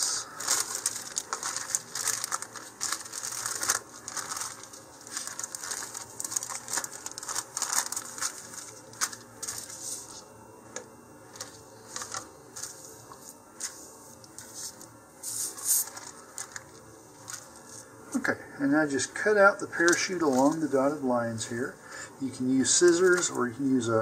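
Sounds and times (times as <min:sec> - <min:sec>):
plastic sheeting crinkling: 0:00.0 - 0:10.3, 0:11.3 - 0:18.2, 0:19.0 - 0:21.0, 0:22.2 - 0:23.7.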